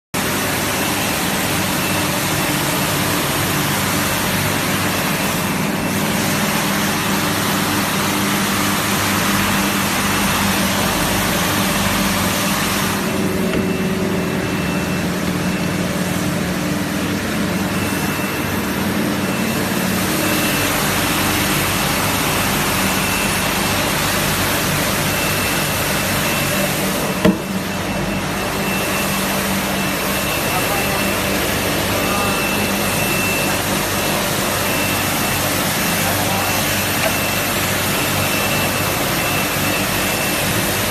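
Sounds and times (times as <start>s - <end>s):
carpet-washing machine running: 0.2s - 40.9s
high whine: 0.2s - 40.9s.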